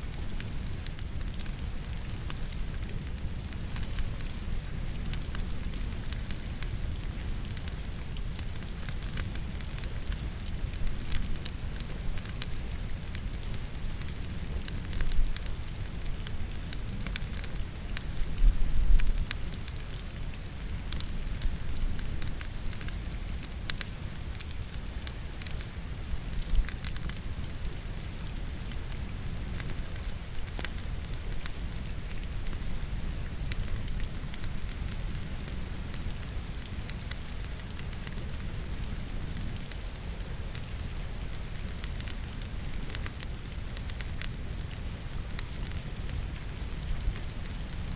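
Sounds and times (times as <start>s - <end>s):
firewood crackling and popping: 0.0s - 47.9s
rain falling: 0.0s - 47.9s.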